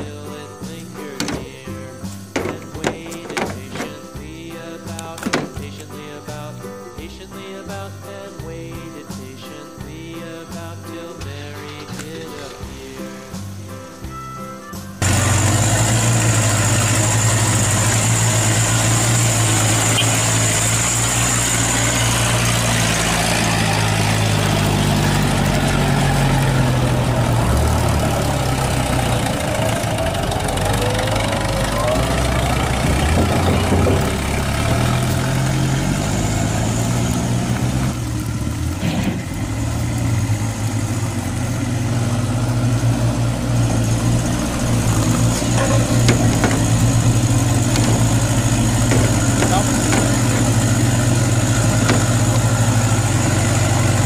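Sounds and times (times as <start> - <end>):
vehicle engine idling: 0.0 - 7.2, 15.0 - 54.0.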